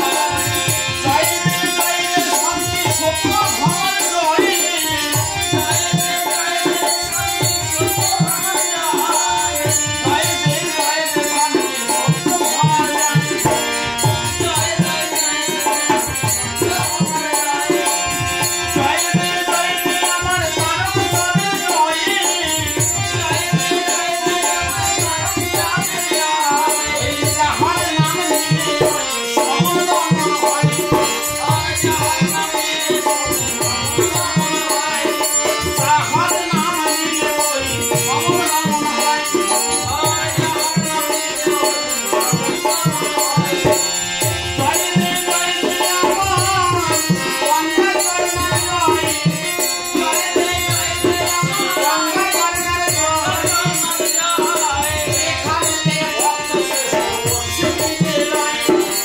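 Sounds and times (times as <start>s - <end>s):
harmonium chords: 0.0s - 59.0s.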